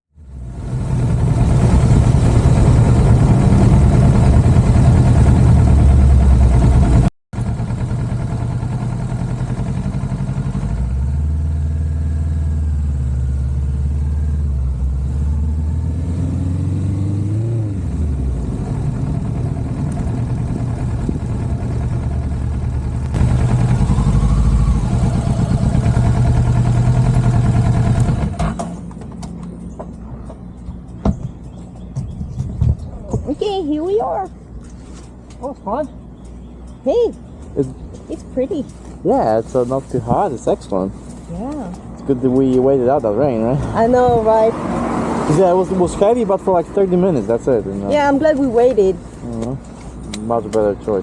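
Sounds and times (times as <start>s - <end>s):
motorcycle engine running: 0.2s - 15.0s, 17.6s - 44.5s.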